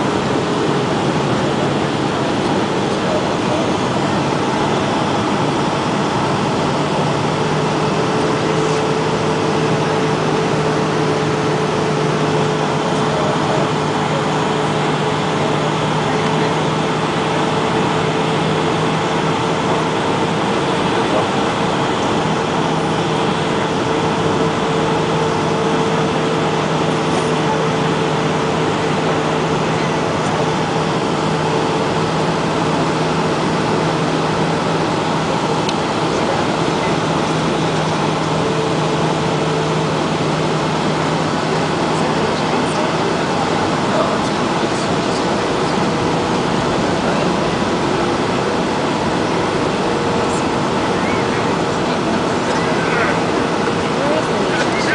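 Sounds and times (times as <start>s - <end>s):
jet engine and airflow rush: 0.0s - 54.9s
mid-pitched whine: 0.0s - 54.9s.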